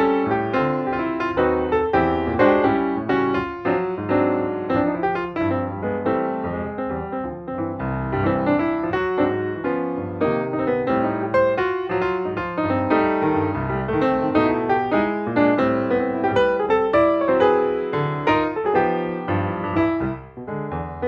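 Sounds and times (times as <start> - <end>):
background piano music: 0.0 - 21.0.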